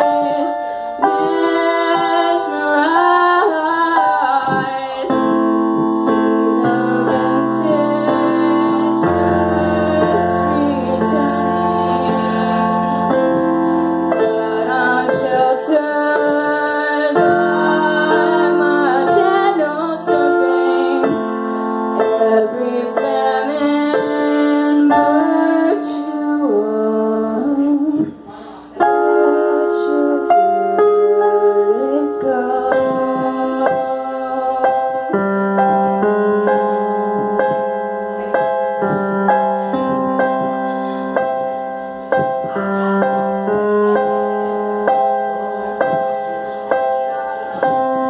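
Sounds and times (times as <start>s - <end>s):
keyboard piano accompaniment: 0.0s - 48.0s
woman singing: 0.0s - 48.0s.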